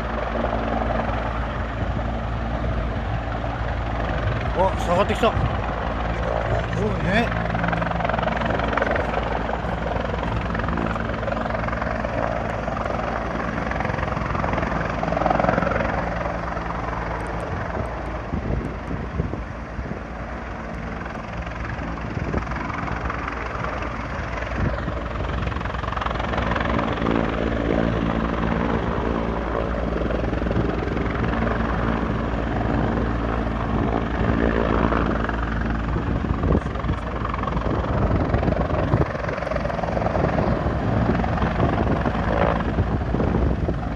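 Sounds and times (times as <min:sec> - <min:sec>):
helicopter engine noise: 0:00.0 - 0:43.9
helicopter rotor beating: 0:00.0 - 0:43.9.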